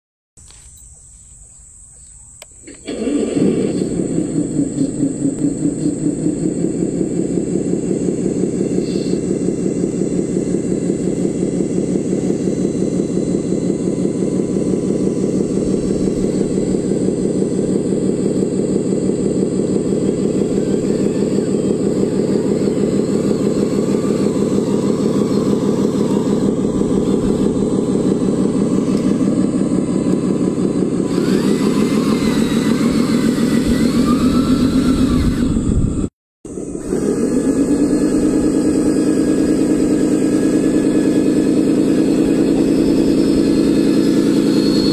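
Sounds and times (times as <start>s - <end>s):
model truck engine chugging: 2.3s - 44.9s.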